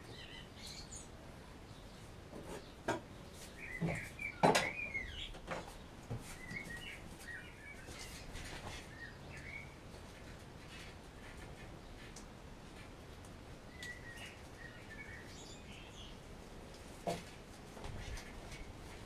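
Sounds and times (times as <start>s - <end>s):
small birds chirping: 0.0s - 16.3s.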